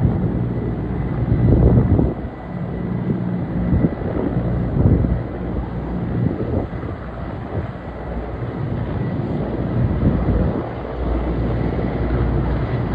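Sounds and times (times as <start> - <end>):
helicopter flying: 0.0 - 12.9.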